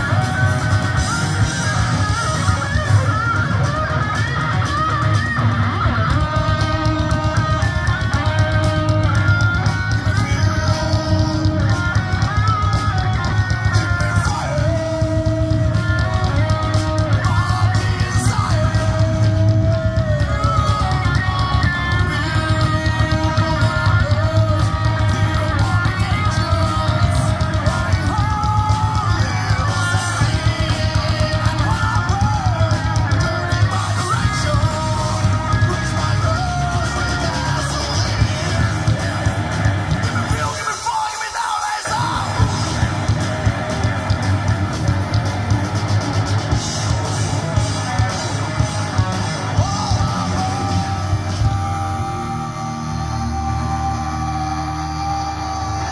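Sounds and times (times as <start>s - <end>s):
electric guitar melody: 0.0s - 40.6s, 41.9s - 55.9s
rock band playing live: 0.0s - 55.9s.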